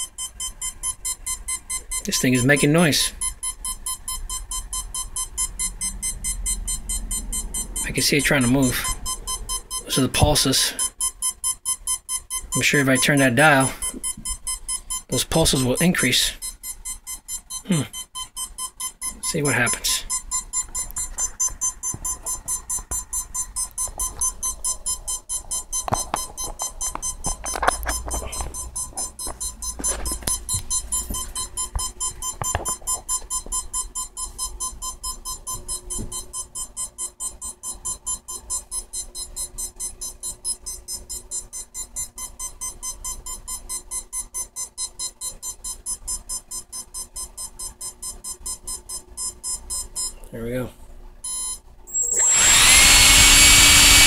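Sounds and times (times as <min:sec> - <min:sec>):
motor beeping in short pulses: 0:00.0 - 0:45.1, 0:51.3 - 0:54.0.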